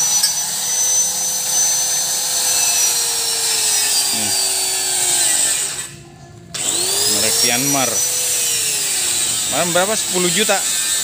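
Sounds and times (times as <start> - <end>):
electric power tool whine: 0.0 - 11.0.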